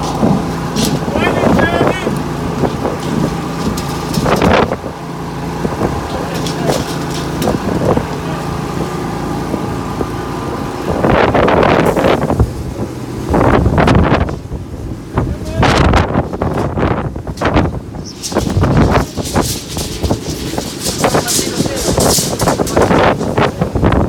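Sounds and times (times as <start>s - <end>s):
bursts of rushing noise: 0.0s - 24.0s
engine humming: 0.0s - 24.0s.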